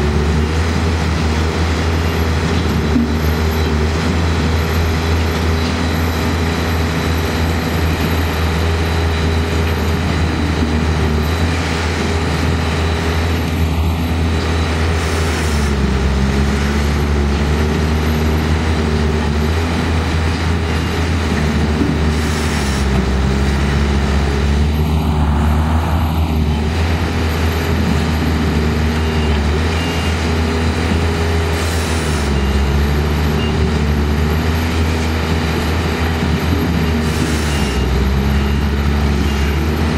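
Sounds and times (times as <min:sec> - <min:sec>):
machine engines droning: 0:00.0 - 0:39.9.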